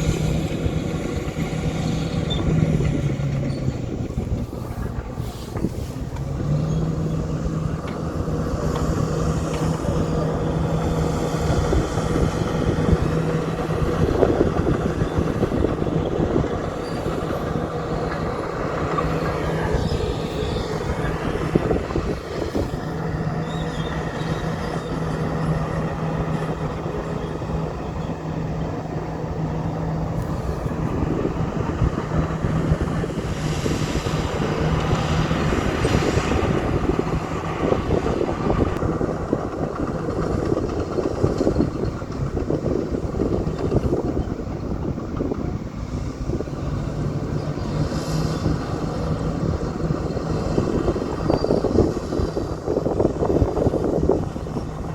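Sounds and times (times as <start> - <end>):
bulldozer diesel engine rumbling: 0.0 - 54.9.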